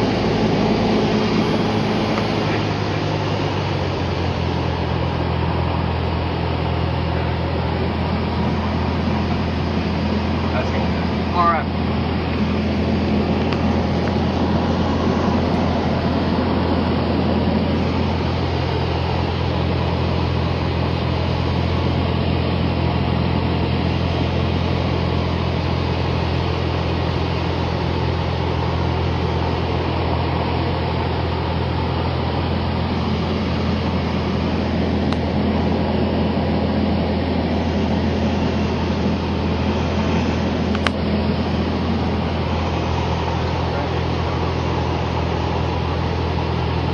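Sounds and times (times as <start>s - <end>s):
propeller plane engine droning: 0.0s - 46.9s
rushing air: 0.0s - 46.9s.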